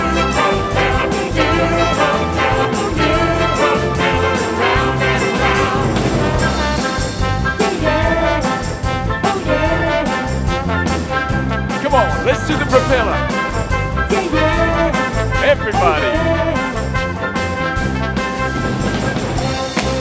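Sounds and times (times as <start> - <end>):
orchestral pop brass over a beat: 0.0 - 20.0.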